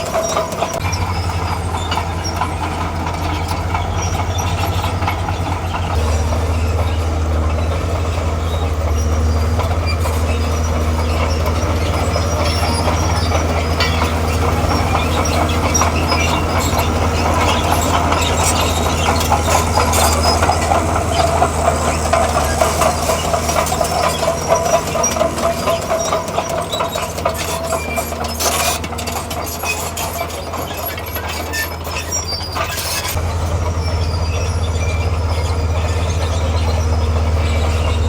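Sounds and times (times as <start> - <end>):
diesel engine drone: 0.0 - 38.0
steel tracks clanking: 0.0 - 38.0
squealing tone: 3.8 - 38.0.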